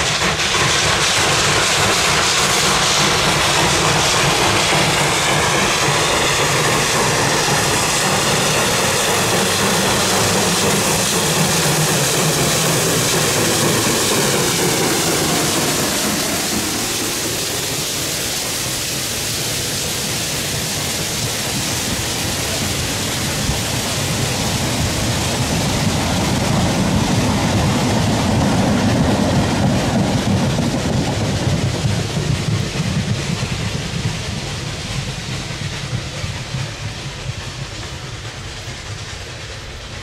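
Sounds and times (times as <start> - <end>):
train rumbling: 0.0 - 40.0
train rushing past: 0.0 - 40.0.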